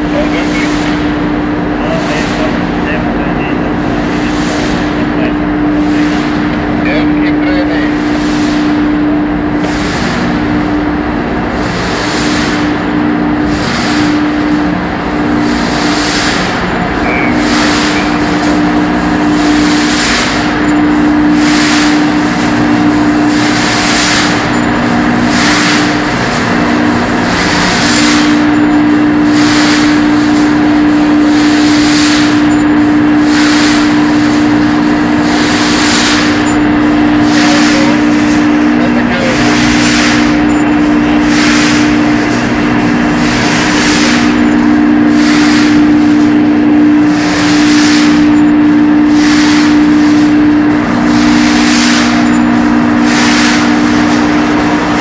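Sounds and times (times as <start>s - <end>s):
pump room machinery hum: 0.0s - 55.0s.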